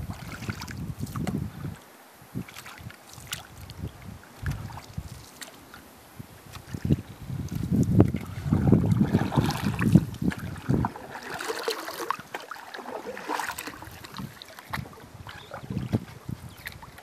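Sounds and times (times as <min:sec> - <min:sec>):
wind rumble on microphone: 0:00.0 - 0:11.5, 0:13.5 - 0:17.0
paddles splashing in water: 0:00.0 - 0:17.0.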